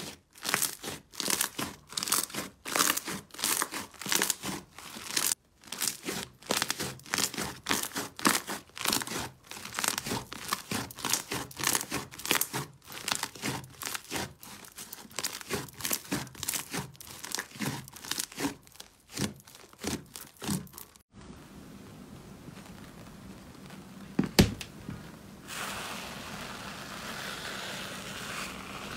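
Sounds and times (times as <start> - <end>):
slime squeezed by hand crackling: 0.0 - 21.0, 25.5 - 28.9.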